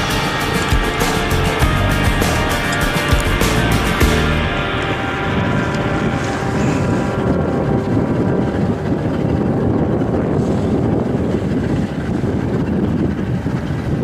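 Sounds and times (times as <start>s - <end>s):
motorboat motor running: 0.0s - 14.0s
water rushing: 0.0s - 14.0s
wind buffeting microphone: 0.0s - 14.0s.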